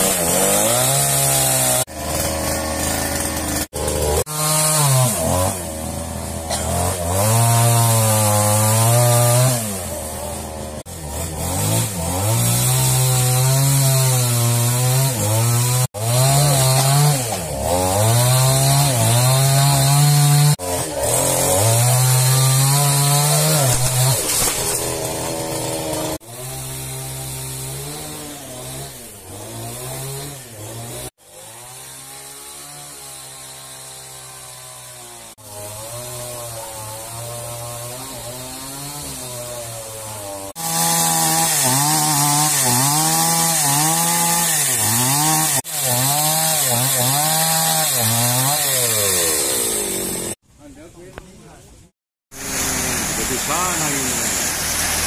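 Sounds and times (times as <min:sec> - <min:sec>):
chainsaw cutting timber: 0:00.0 - 0:50.4, 0:52.3 - 0:55.0.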